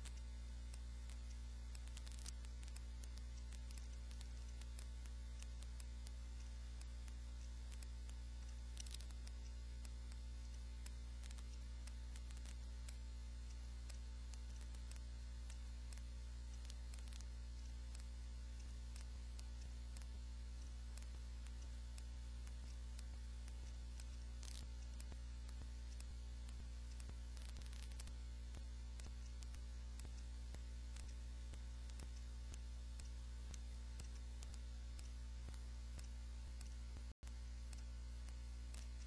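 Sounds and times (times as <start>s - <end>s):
electrical mains hum: 0.0s - 39.0s
faint clicks: 0.0s - 39.0s.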